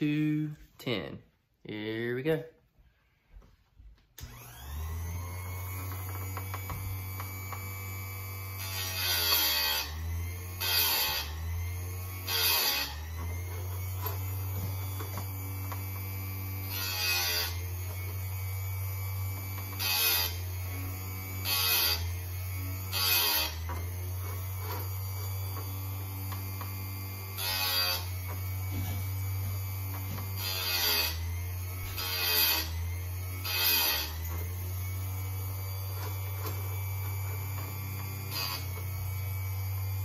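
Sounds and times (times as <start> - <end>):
chain sharpener motor humming: 4.2 - 40.0
grinding wheel rasping: 4.2 - 40.0.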